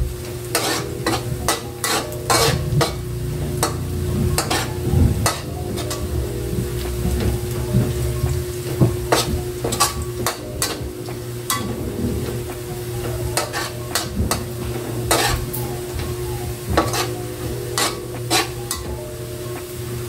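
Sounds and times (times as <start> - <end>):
garlic sizzling in oil: 0.0 - 20.0
steady low hum: 0.0 - 20.0
metal spatula scraping a wok: 0.4 - 8.0, 9.0 - 18.9.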